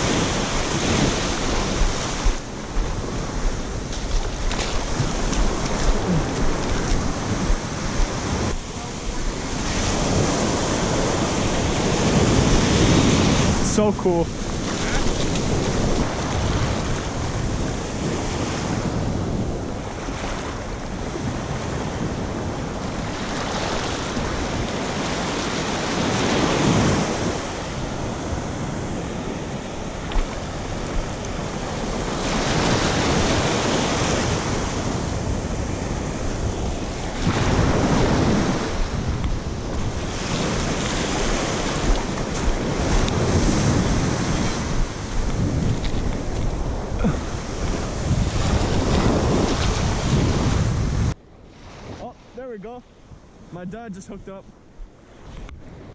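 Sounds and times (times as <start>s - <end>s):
ocean surf washing over sand: 0.0s - 55.9s
wind buffeting microphone: 0.0s - 55.9s.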